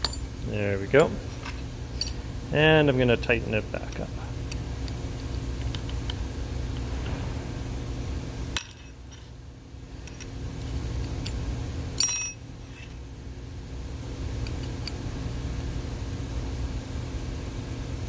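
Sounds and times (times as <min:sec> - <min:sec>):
low shop hum: 0:00.0 - 0:18.0.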